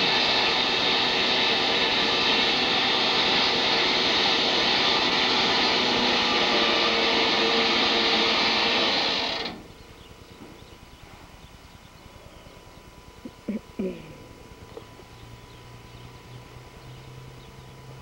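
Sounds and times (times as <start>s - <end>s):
small engine running steadily: 0.0s - 18.0s.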